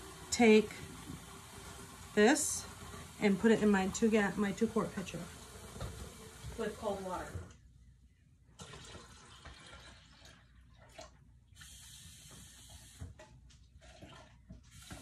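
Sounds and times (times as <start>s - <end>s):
tap water running into pitcher: 0.0s - 7.6s, 8.6s - 15.0s.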